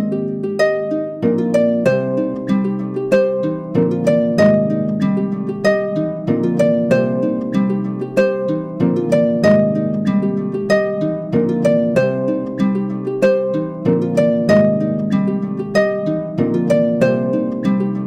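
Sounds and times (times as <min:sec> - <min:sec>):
plucked harp-like strings music: 0:00.0 - 0:18.0.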